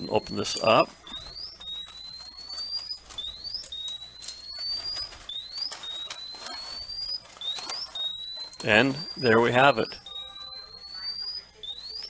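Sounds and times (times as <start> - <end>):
gas detector alarm beeping: 0.0 - 12.0.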